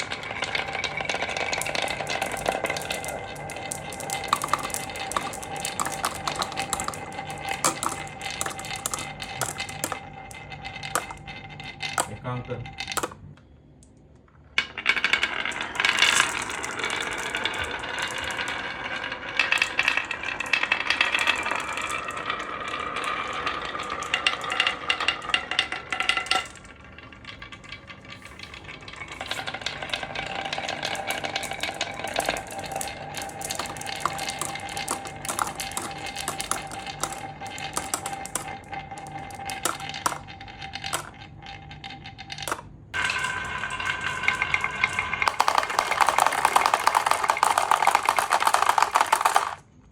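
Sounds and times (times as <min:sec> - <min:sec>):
marbles clattering down a run: 0:00.0 - 0:13.2, 0:14.4 - 0:49.9.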